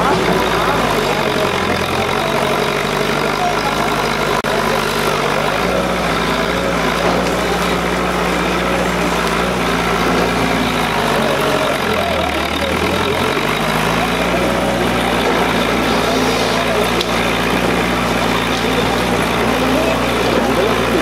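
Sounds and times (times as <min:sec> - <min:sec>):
faint voices: 0:00.0 - 0:21.0
vehicle engine idling: 0:00.0 - 0:21.0.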